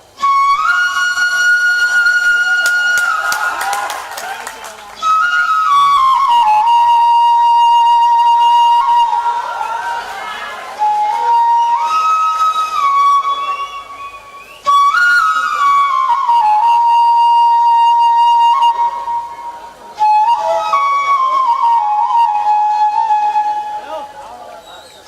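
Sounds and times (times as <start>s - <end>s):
bamboo flute melody: 0.0s - 25.0s.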